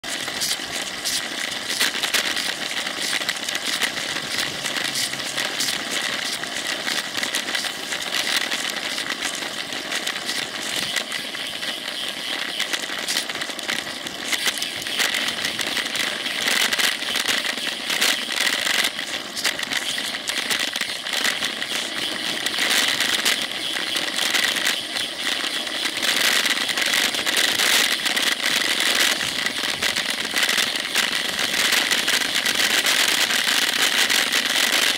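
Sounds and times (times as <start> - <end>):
road hiss: 0.0 - 34.9
camera rattling and clicking: 0.1 - 34.9.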